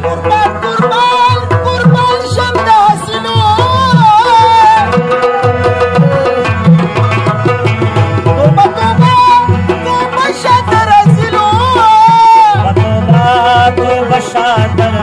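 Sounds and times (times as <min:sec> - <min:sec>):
man singing ornamented melody: 0:00.0 - 0:06.8, 0:08.2 - 0:15.0
harmonium: 0:00.0 - 0:15.0
rabab: 0:00.0 - 0:15.0
tabla beating steady rhythm: 0:00.0 - 0:15.0.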